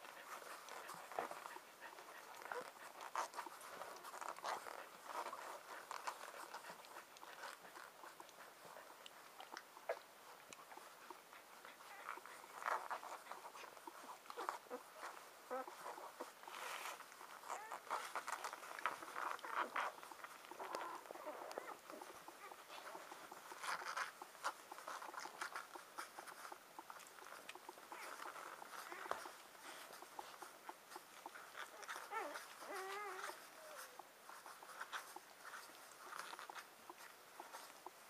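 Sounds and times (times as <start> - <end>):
puppies squeaking and grunting: 0.0 - 38.0
puppies suckling: 0.0 - 38.0.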